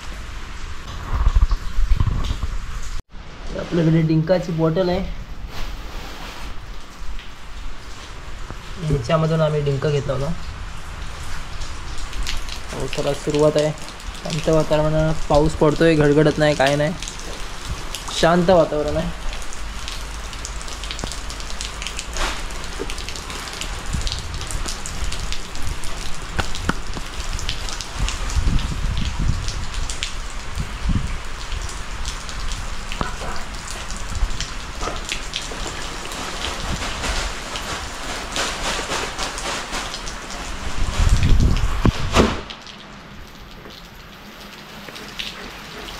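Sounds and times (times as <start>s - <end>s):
steady rain falling: 0.0s - 45.9s
raindrops tapping: 6.6s - 45.9s.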